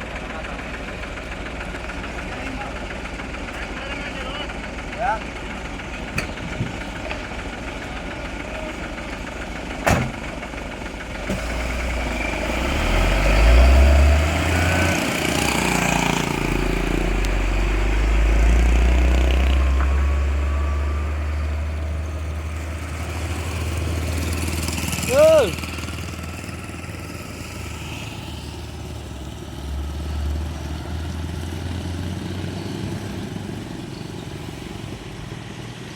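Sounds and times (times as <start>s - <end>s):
diesel truck engine rumble: 0.0s - 35.9s.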